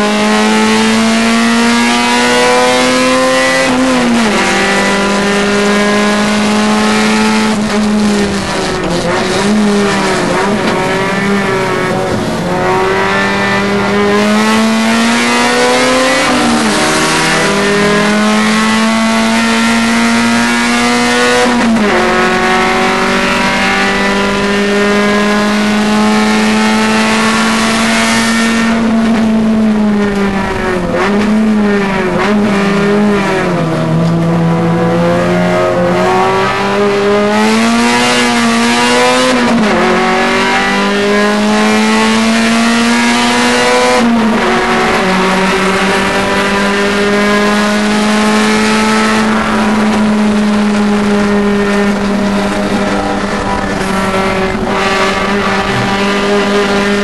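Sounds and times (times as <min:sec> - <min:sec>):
race car engine revving high: 0:00.0 - 0:57.0.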